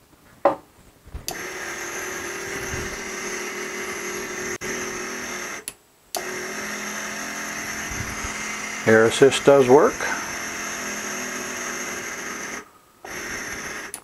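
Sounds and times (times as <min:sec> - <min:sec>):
air pump motor hum: 0:01.3 - 0:14.0.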